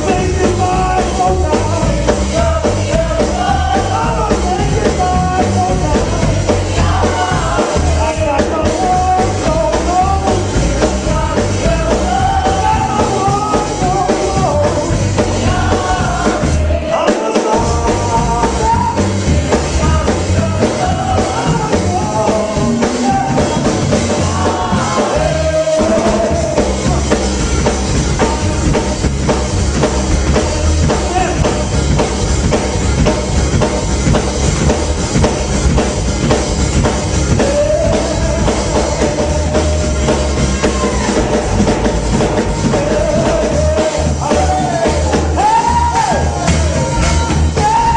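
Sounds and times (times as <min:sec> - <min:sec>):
bass guitar: 0:00.0 - 0:47.9
drums: 0:00.0 - 0:47.9
voices singing: 0:00.0 - 0:47.9.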